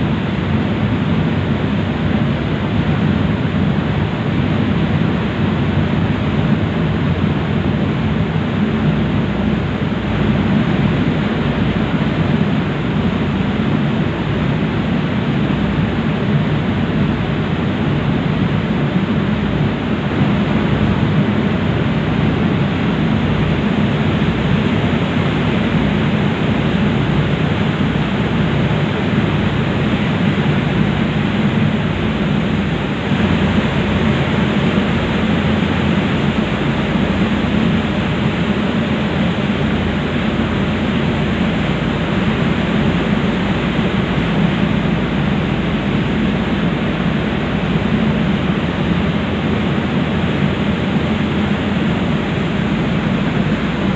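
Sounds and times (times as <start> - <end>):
ferry engine hum: 0.0 - 53.9.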